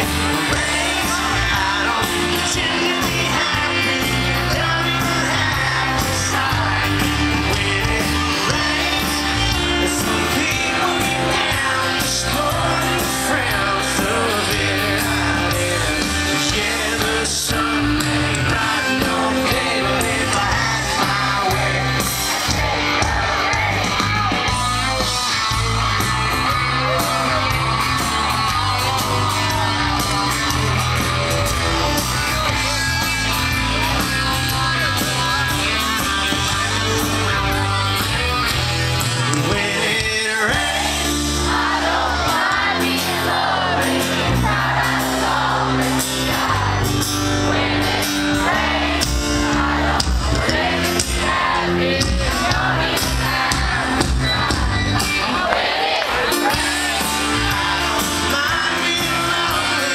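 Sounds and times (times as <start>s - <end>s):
man singing lead vocal: 0.0s - 46.9s, 47.8s - 55.5s, 56.1s - 59.9s
live country rock band: 0.0s - 59.9s.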